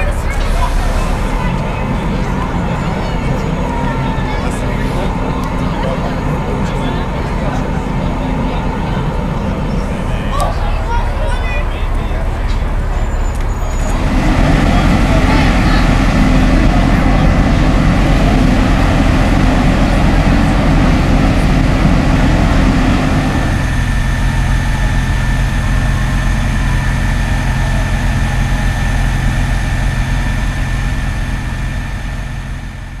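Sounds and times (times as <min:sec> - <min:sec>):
broad rushing noise: 0:00.0 - 0:33.0
bus engine idling: 0:00.0 - 0:33.0
high whine: 0:00.0 - 0:33.0.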